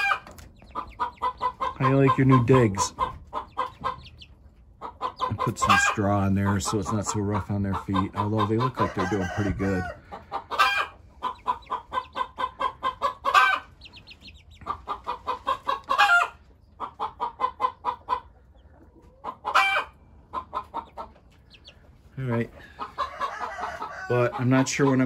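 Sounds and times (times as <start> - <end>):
chicken squawk: 0.0 - 25.0
young chickens clucking: 0.0 - 25.0.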